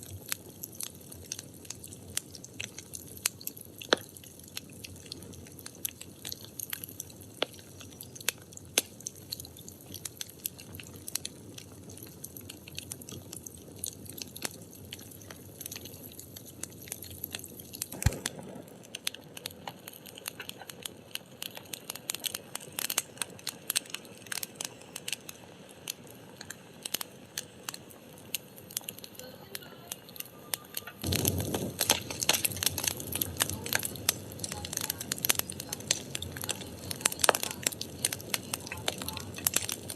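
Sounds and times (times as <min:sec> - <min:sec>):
low rush of flame: 0:00.0 - 0:29.3, 0:31.0 - 0:39.9
firewood crackling and popping: 0:00.0 - 0:39.9.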